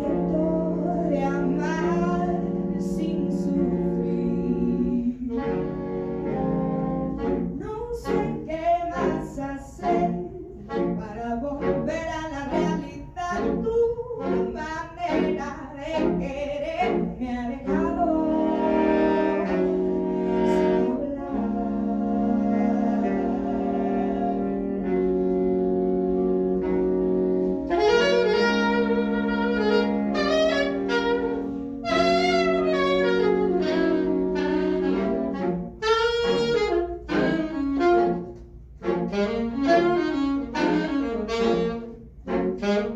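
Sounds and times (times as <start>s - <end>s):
saxophone quartet playing: 0.0s - 42.9s.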